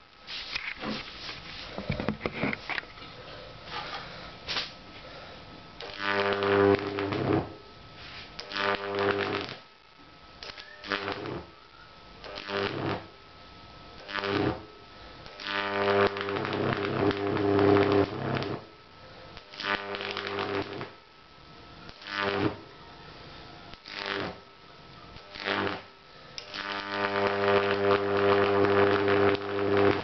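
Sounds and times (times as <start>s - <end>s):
high-voltage arc buzzing: 4.4s - 30.0s.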